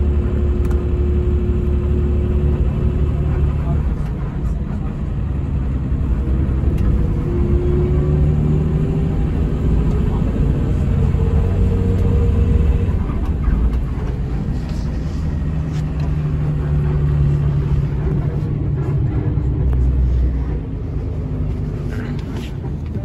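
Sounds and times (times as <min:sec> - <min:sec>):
coach engine rumble: 0:00.0 - 0:23.0.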